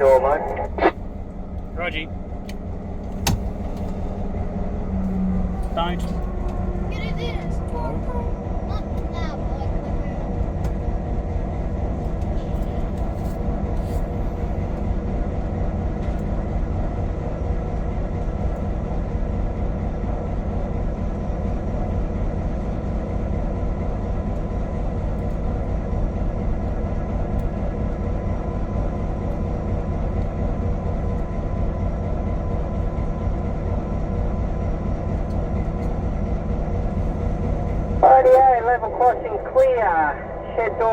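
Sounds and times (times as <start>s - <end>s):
locomotive diesel engine droning: 0.0s - 40.9s.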